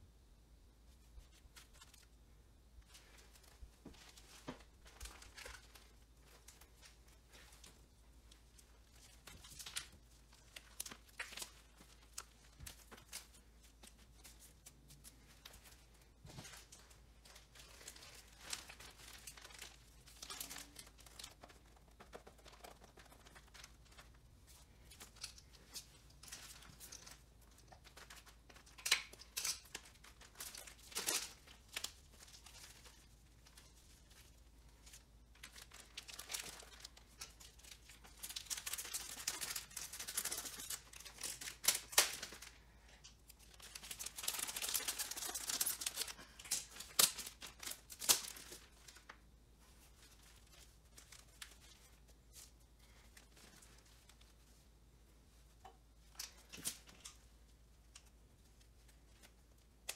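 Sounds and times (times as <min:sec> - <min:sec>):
plastic film crinkling: 0:02.8 - 0:59.9.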